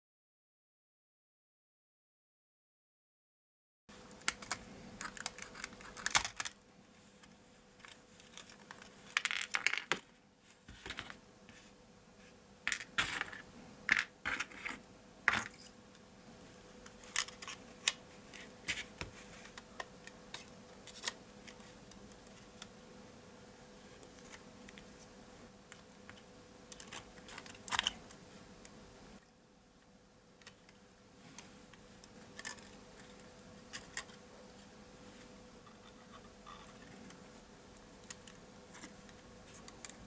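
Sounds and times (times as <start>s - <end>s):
faint steady hum: 3.9s - 40.0s.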